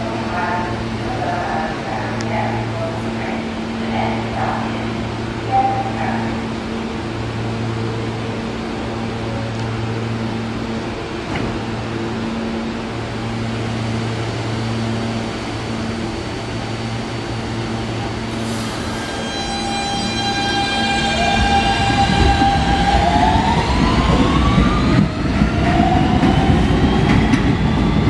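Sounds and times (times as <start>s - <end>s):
subway train equipment humming: 0.0s - 28.0s
train propulsion whine: 0.0s - 28.0s.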